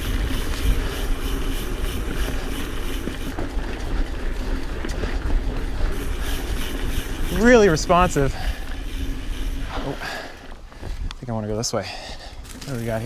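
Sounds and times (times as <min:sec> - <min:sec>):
bike hub ticking: 0:00.0 - 0:11.2
wind rumble on microphone: 0:00.0 - 0:11.6
bike tyres on dirt: 0:00.0 - 0:13.0.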